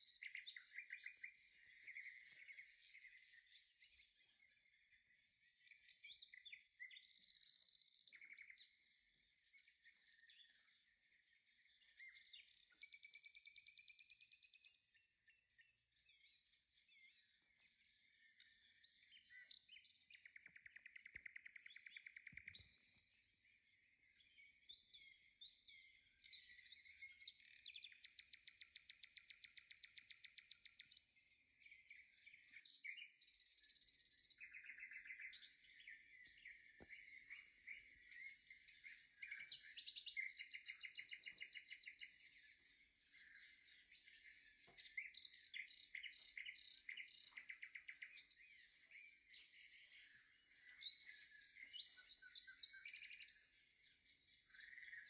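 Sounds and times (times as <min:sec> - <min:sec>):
faint birdsong: 0:00.0 - 0:55.0.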